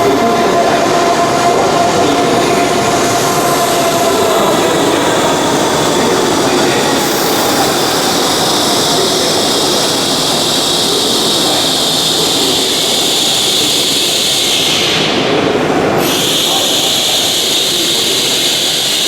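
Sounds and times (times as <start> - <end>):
train running rush: 0.0 - 19.0.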